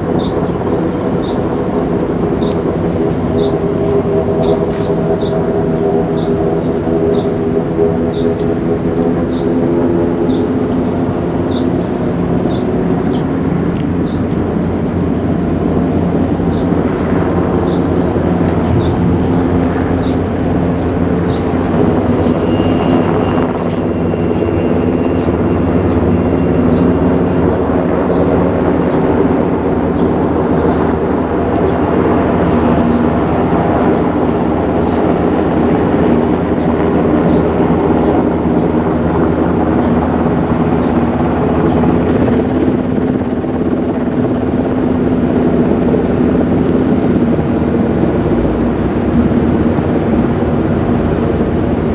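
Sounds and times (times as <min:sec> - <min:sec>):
helicopter rotor drone: 0:00.0 - 0:51.9.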